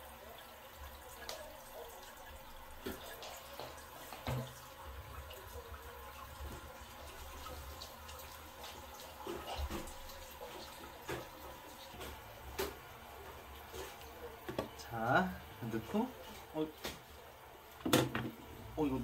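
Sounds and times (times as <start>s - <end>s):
water swirling in toilet bowl: 0.0s - 18.6s.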